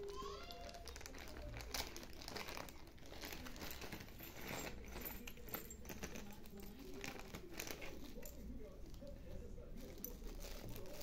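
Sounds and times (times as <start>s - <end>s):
plastic bags crinkling: 0.0s - 11.0s
small accessories shifting: 0.0s - 11.0s.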